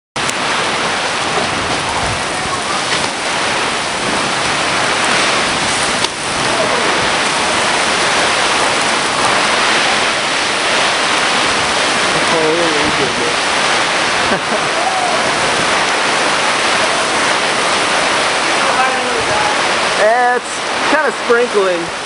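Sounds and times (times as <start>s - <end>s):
heavy rain pouring: 0.2s - 22.0s.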